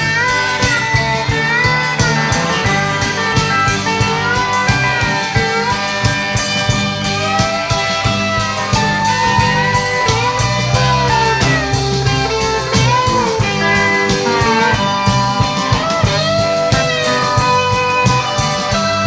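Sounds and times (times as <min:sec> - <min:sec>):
bass guitar: 0:00.0 - 0:19.0
lead guitar bending notes: 0:00.0 - 0:19.0
steady drum beat: 0:00.0 - 0:19.0.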